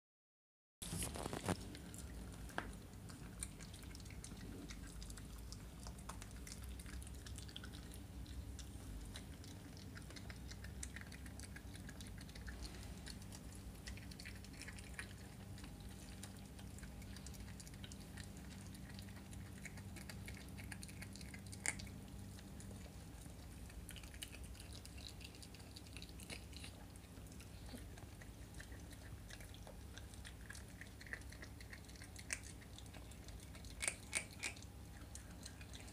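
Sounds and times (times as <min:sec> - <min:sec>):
low steady hum: 0:00.8 - 0:35.9
puppy chewing a bone: 0:00.8 - 0:35.9.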